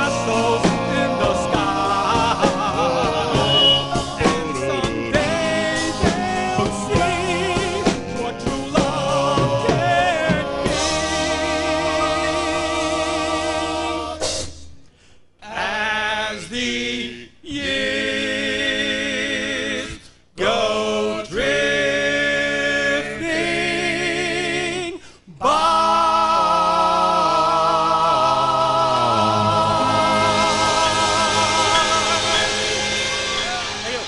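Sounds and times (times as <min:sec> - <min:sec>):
male vocal group singing harmony: 0:00.0 - 0:14.6, 0:15.4 - 0:34.0.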